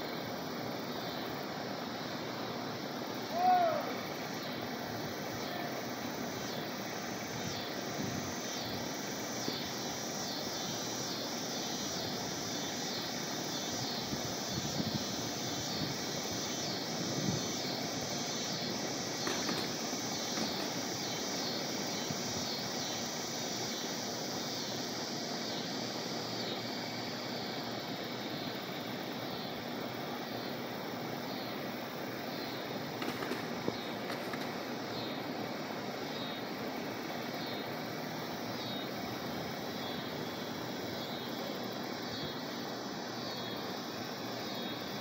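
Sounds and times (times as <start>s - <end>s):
distant background noise: 0.0s - 45.0s
insects pulsing chorus: 0.0s - 45.0s.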